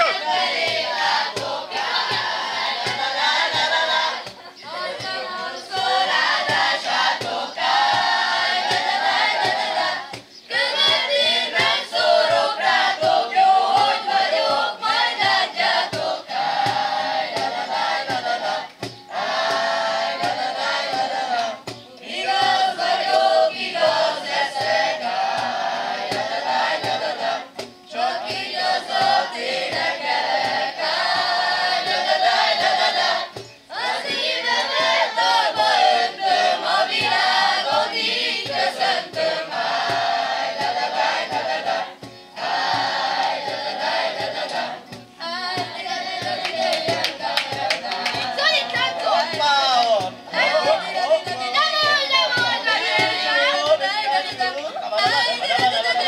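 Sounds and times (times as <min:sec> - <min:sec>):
acoustic guitar: 0:00.0 - 0:56.0
children singing together: 0:00.0 - 0:56.0.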